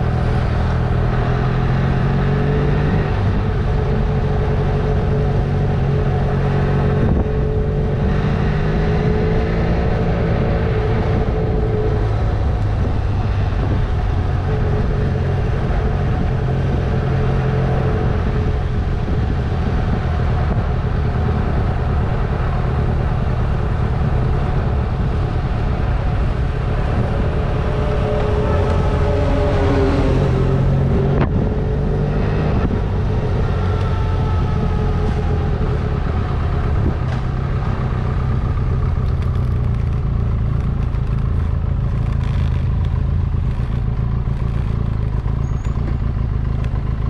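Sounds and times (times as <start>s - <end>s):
motorcycle engine running: 0.0s - 47.0s
wind and road noise: 0.0s - 47.0s.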